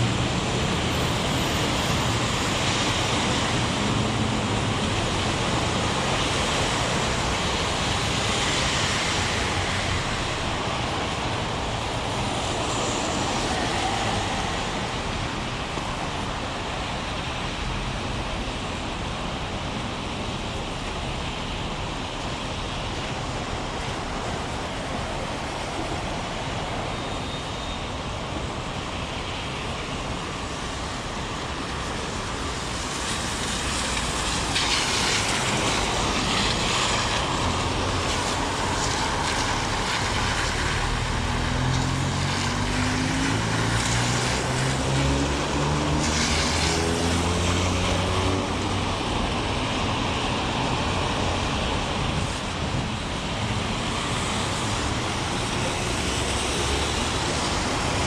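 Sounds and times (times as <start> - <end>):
heavy rain on street: 0.0 - 58.0
traffic noise: 0.0 - 58.0.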